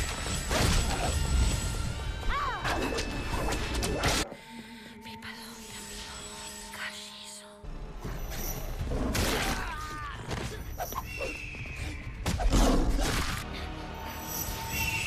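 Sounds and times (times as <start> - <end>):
action soundtrack music: 0.0 - 4.4, 5.3 - 15.0.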